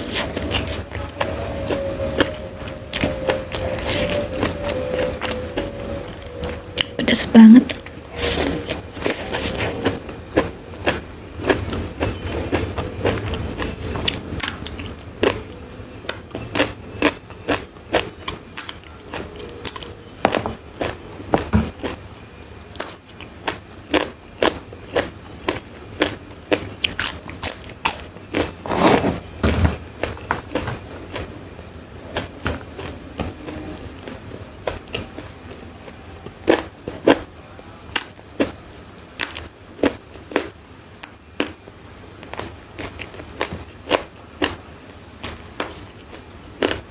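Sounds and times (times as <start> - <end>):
chewing crunchy food: 0.0 - 7.0, 7.7 - 28.6, 30.0 - 31.4, 32.0 - 37.3, 37.9 - 41.6, 42.2 - 46.9.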